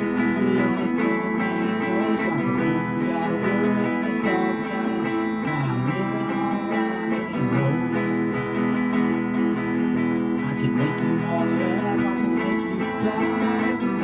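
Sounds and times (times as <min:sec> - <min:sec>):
guitar chords strummed: 0:00.0 - 0:14.0.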